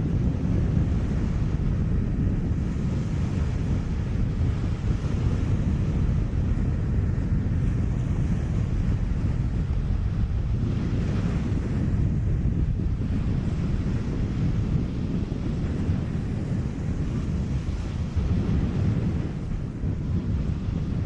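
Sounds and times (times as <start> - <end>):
wind rumbling on microphone: 0.0 - 21.0
small waves breaking on shore: 0.3 - 21.0.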